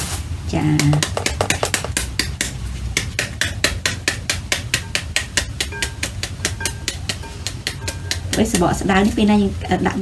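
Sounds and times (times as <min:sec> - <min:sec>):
spoon tapping pomegranate: 0:00.8 - 0:09.0.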